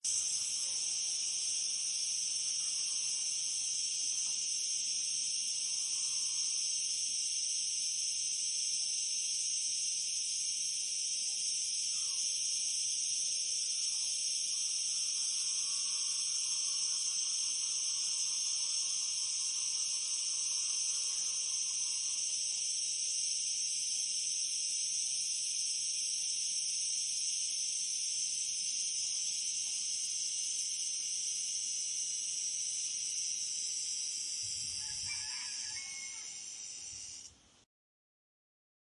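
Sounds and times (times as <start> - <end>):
cicadas buzzing: 0.1 - 37.4.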